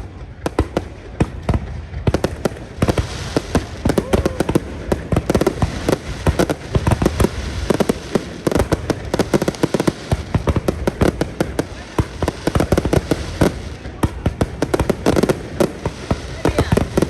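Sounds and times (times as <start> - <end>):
fireworks bangs and crackle: 0.0 - 17.0.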